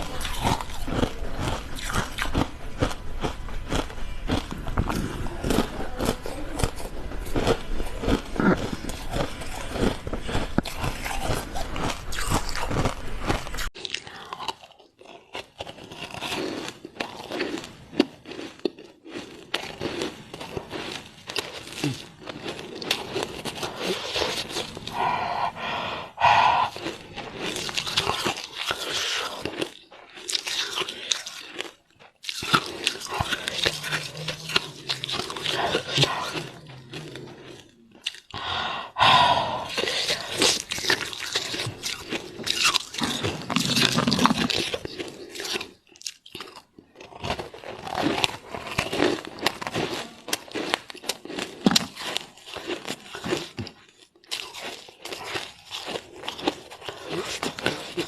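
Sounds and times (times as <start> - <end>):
ice being bitten and crunched: 0.0 - 25.0, 26.2 - 58.0.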